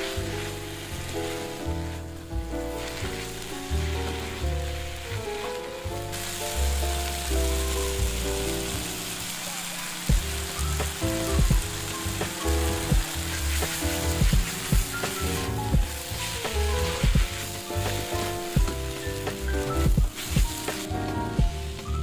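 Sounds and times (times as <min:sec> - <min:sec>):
background music: 0:00.0 - 0:22.0
food sizzling in a pan: 0:00.0 - 0:22.0.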